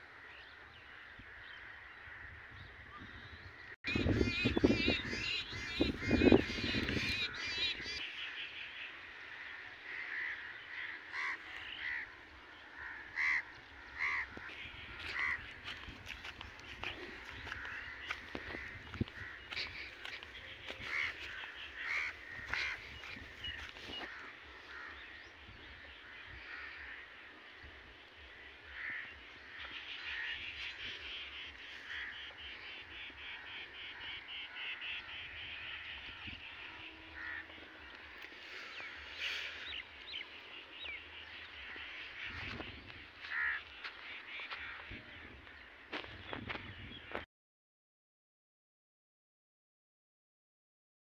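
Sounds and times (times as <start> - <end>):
birds calling: 0.0 - 47.2.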